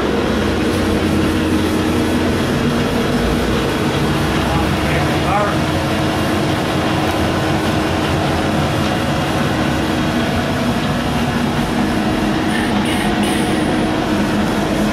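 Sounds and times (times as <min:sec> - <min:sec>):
machinery rumbling: 0:00.0 - 0:14.9.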